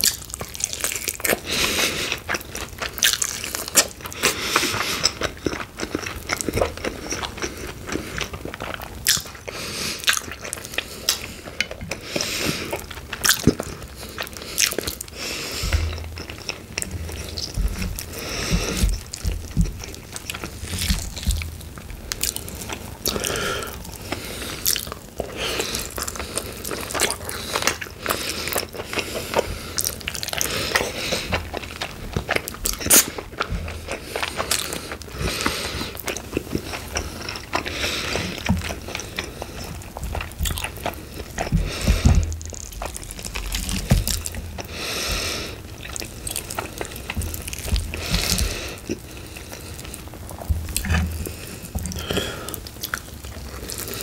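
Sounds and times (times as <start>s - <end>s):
chewing chicken wings: 0.0s - 54.0s.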